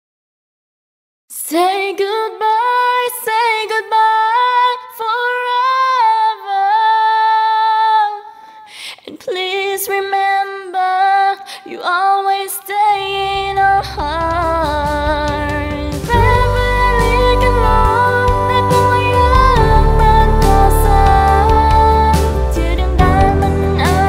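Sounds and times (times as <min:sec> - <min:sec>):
woman singing unaccompanied: 0:01.3 - 0:24.0.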